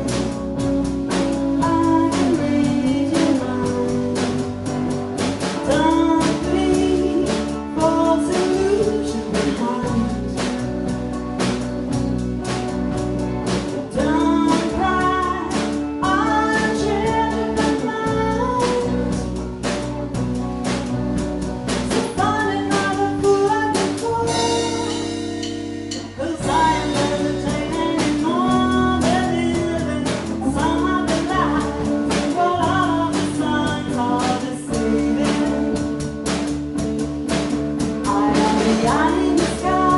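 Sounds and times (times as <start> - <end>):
person singing: 0.0 - 11.6, 13.6 - 20.0, 21.7 - 36.6, 37.8 - 39.9
rock band playing: 0.0 - 39.9.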